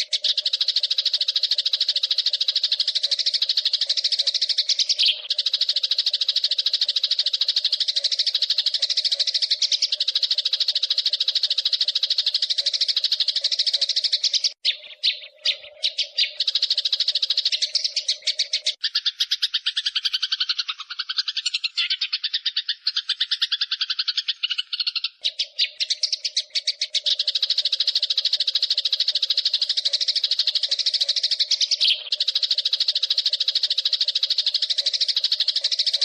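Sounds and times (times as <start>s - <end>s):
sparrow rapid rolling chatter: 0.0s - 36.0s.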